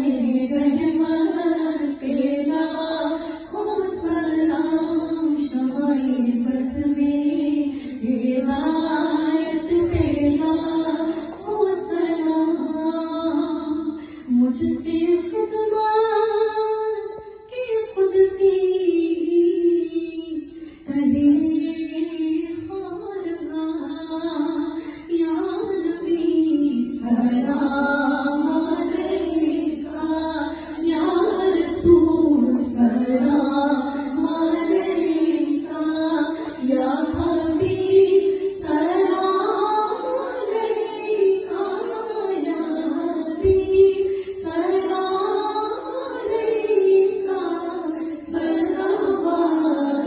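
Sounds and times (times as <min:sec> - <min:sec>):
woman singing devotional melody: 0:00.0 - 0:50.0.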